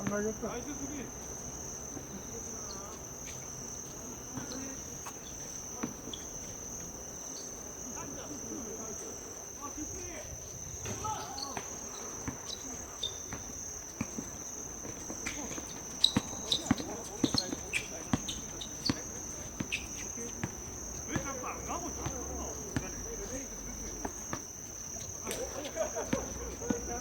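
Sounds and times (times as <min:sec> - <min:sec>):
crickets trilling: 0:00.0 - 0:27.0
distant voices: 0:00.0 - 0:27.0.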